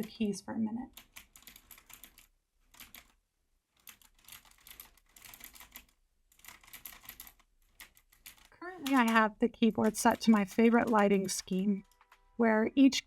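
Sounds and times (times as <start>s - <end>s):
mechanical keyboard typing: 0.9s - 3.1s, 3.8s - 12.2s.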